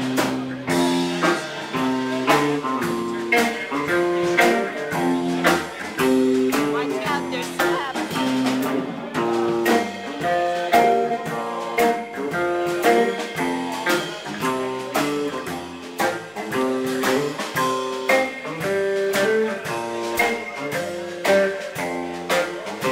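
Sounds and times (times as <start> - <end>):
guitar-led band music: 0.0 - 22.9.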